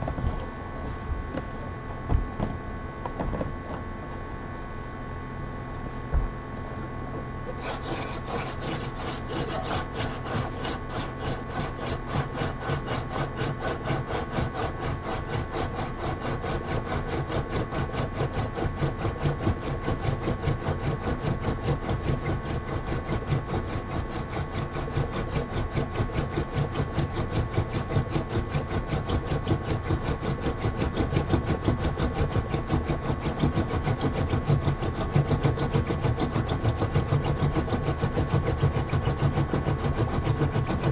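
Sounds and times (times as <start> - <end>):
wooden spindle rasping on board: 7.5 - 40.9.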